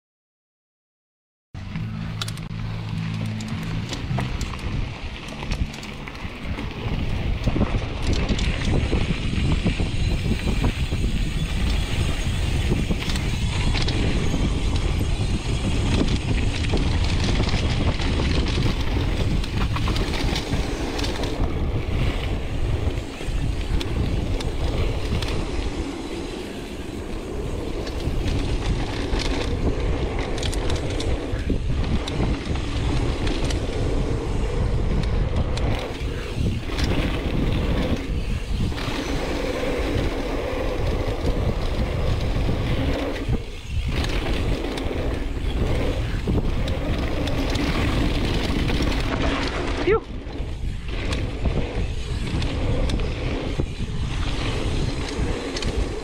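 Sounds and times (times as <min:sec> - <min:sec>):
bike knocks and rattles: 0:01.6 - 0:56.0
tyres rolling on dirt: 0:01.6 - 0:56.0
wind buffeting microphone: 0:03.0 - 0:56.0.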